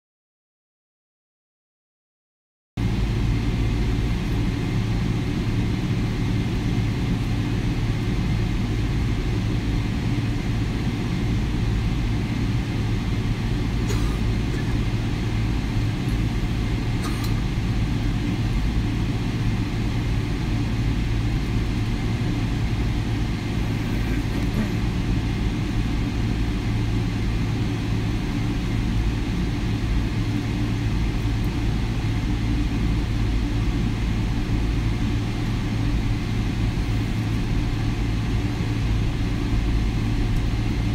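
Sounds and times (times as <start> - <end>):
aircraft cabin rumble and hum: 2.8 - 40.9.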